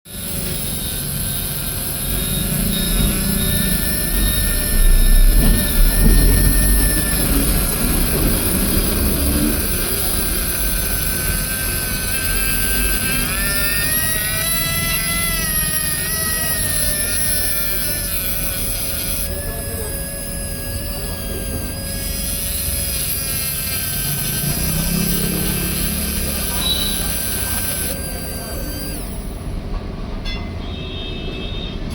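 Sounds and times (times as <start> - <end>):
small motor whirring with high whine: 0.1 - 29.7.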